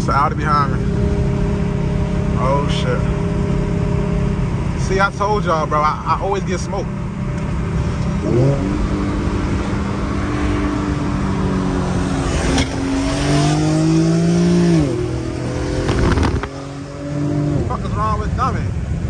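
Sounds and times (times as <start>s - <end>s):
car engine accelerating: 0.0s - 18.6s.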